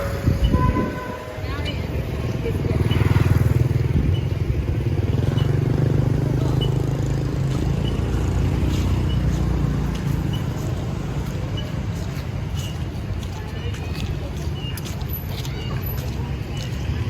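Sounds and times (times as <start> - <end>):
motorbike and traffic engines: 0.0 - 17.0.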